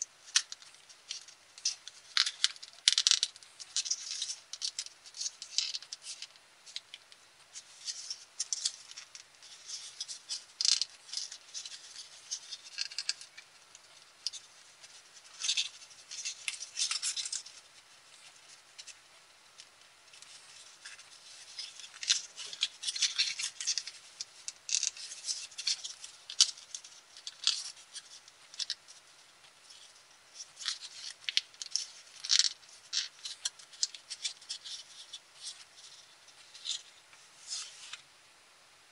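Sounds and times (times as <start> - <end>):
paper crinkling: 0.2 - 38.1.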